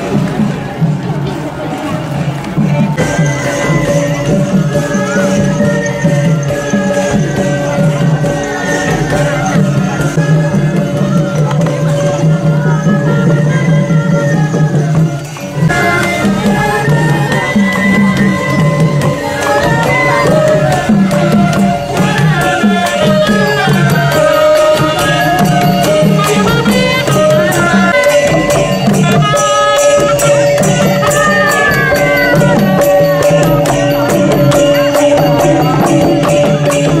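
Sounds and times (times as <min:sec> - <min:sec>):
sharp percussion strokes: 0:00.0 - 0:37.0
repeating drum beat: 0:02.0 - 0:37.0
held melody line: 0:02.8 - 0:37.0.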